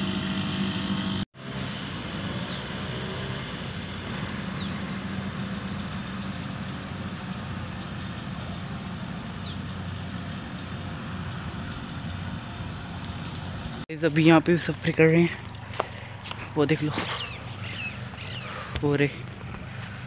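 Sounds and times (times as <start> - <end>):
engine hum: 0.0 - 20.0.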